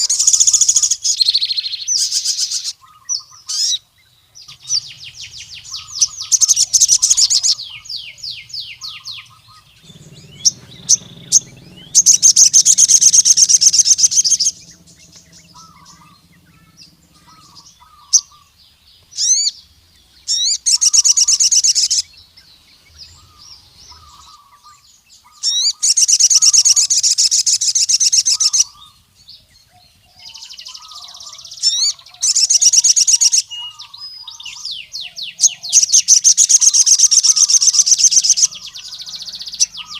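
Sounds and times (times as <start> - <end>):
bird sharp chirps: 0.0 - 39.9
bird trilling song: 0.0 - 39.9.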